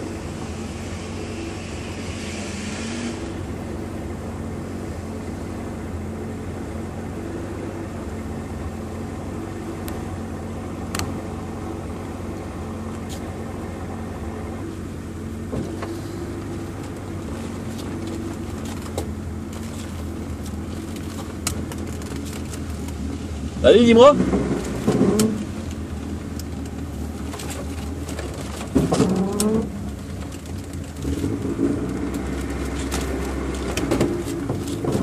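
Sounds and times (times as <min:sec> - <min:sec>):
car engine running at low revs: 0:00.0 - 0:35.0.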